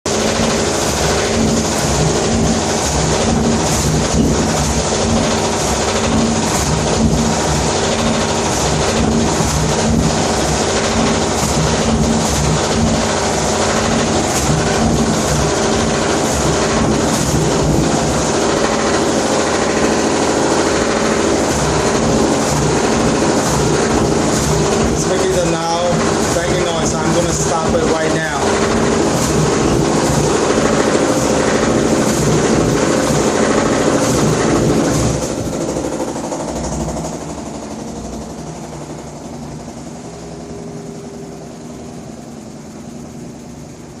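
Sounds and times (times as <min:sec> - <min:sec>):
washing machine rumble: 0:00.0 - 0:44.0.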